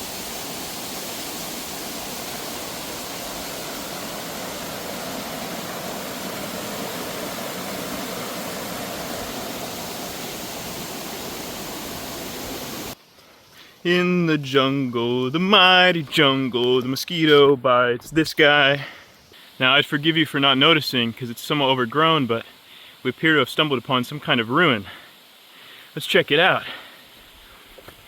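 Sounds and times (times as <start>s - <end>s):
running water rushing: 0.0s - 17.4s, 18.2s - 28.0s.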